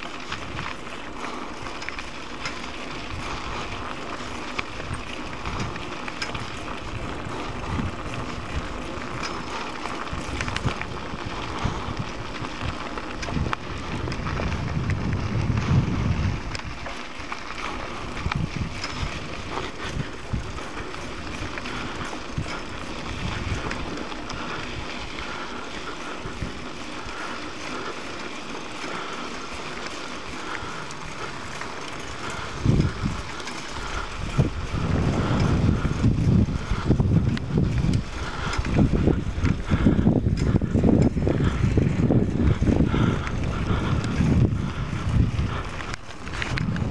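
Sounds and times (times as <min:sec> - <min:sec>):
bicycle rattling on rough surface: 0:00.0 - 0:46.9
wind rumbling on microphone: 0:00.0 - 0:46.9.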